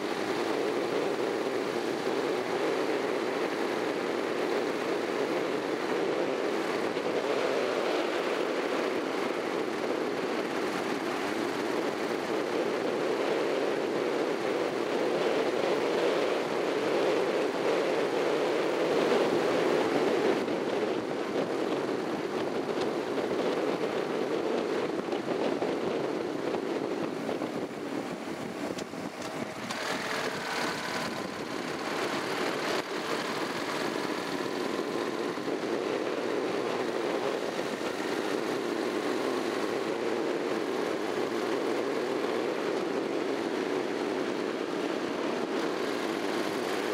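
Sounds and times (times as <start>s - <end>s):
motorcycle engine running: 0.0s - 46.9s
wind rush while riding: 0.0s - 46.9s.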